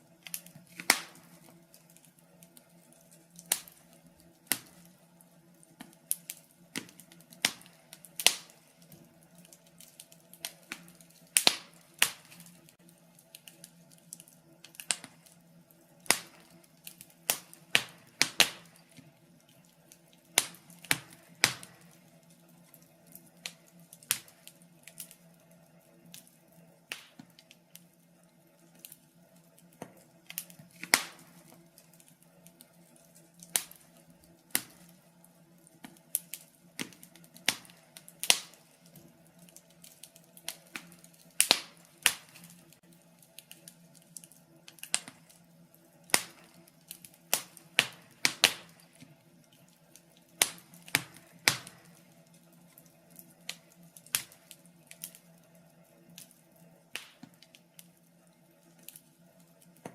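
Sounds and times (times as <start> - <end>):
wood logs crackling in fireplace: 0.0 - 59.9.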